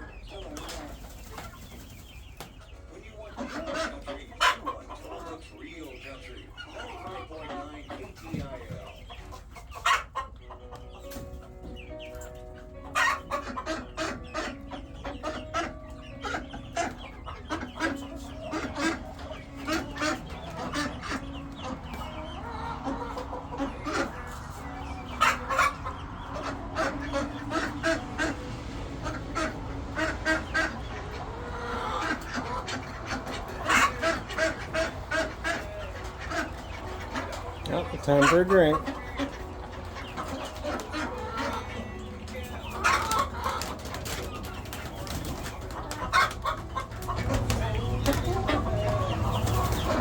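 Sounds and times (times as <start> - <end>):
hens clucking: 0.0 - 50.0.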